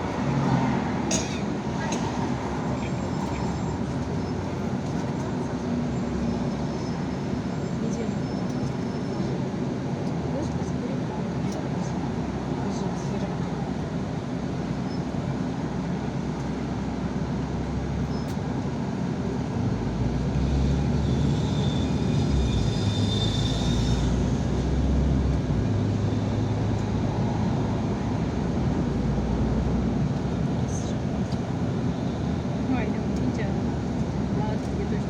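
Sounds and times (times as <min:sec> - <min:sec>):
bus engine drone: 0:00.0 - 0:35.0
road noise: 0:00.0 - 0:35.0.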